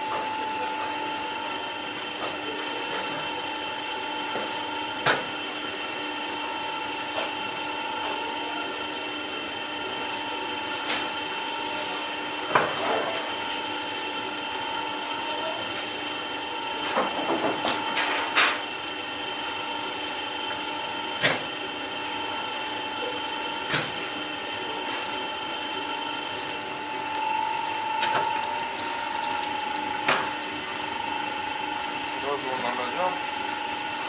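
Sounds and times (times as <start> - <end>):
bakery machinery humming: 0.0 - 34.0.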